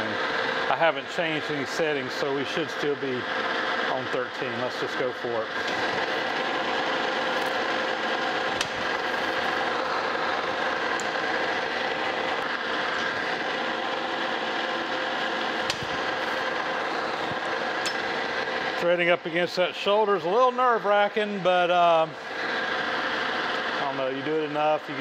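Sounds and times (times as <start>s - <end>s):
metal lathe gearing whine: 0.0s - 25.0s.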